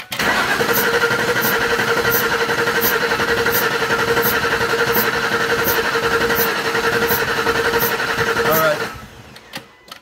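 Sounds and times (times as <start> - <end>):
engine cranking without starting: 0.0 - 9.5.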